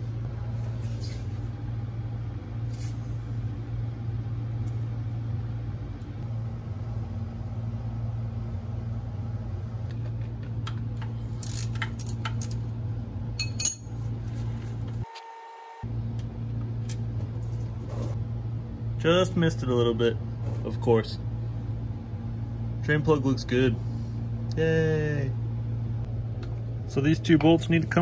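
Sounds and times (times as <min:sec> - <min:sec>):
low hum: 0:00.0 - 0:15.1, 0:15.8 - 0:28.0.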